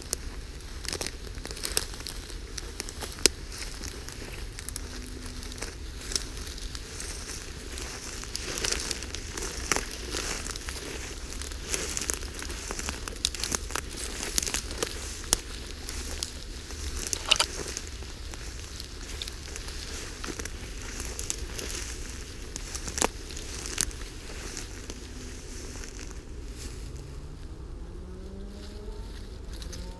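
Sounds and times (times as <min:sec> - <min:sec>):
stems and twigs snapping: 0:00.0 - 0:27.0, 0:29.1 - 0:29.9
dry grass rustling and crackling: 0:00.0 - 0:29.9.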